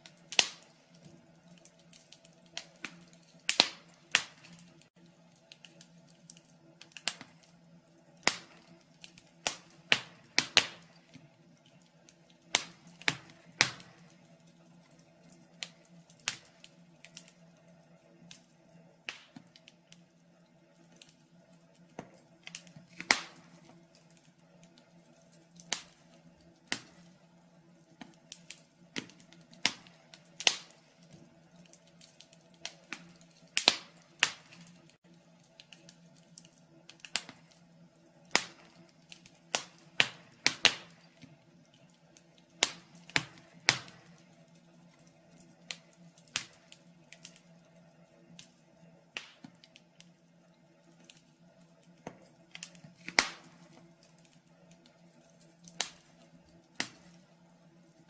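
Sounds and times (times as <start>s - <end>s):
sharp pops from fire: 0.0s - 17.4s, 18.2s - 20.0s, 20.8s - 41.4s, 42.1s - 47.5s, 48.3s - 50.2s, 51.8s - 57.3s
wood fire crackling: 0.0s - 58.0s.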